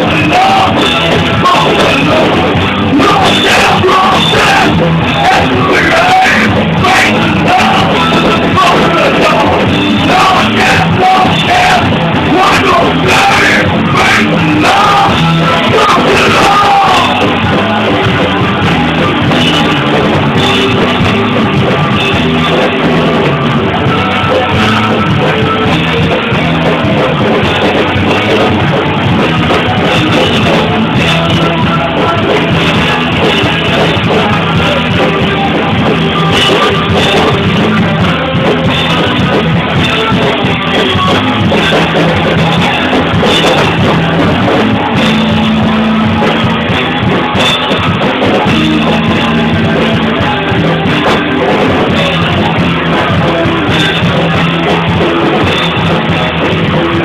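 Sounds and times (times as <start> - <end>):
person singing: 0.0 - 57.0
rock band playing live: 0.0 - 57.0.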